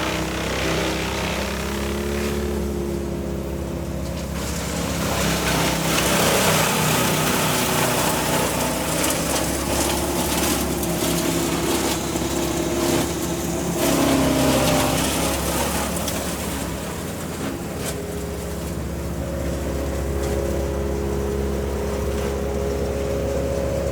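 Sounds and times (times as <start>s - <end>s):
engine running: 0.0s - 23.9s.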